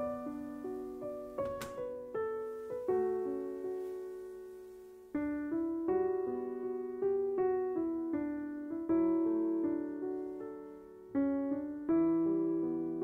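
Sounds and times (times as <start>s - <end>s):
gentle solo piano: 0.0s - 13.0s.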